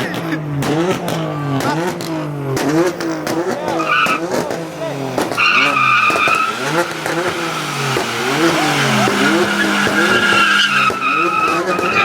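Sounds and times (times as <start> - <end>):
car engine revving: 0.0 - 12.0
tyres squealing: 0.0 - 12.0.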